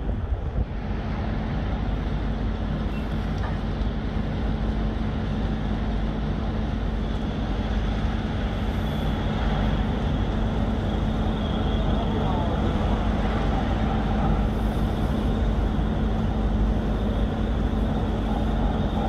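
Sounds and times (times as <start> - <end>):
city traffic noise: 0.0 - 19.0
low engine hum: 0.0 - 19.0.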